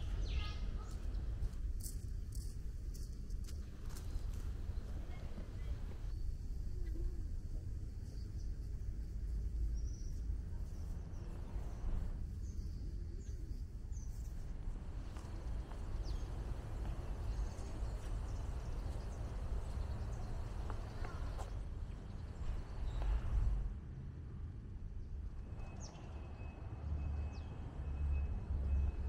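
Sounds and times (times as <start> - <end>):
steady low rumble: 0.0 - 25.6.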